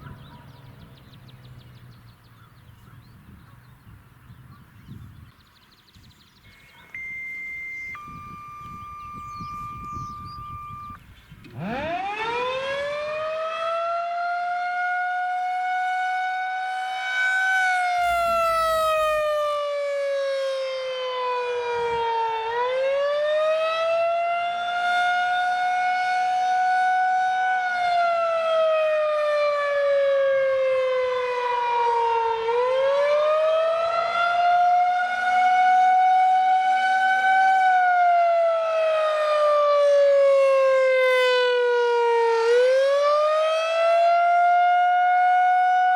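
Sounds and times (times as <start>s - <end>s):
electronic siren wailing: 6.4s - 45.9s.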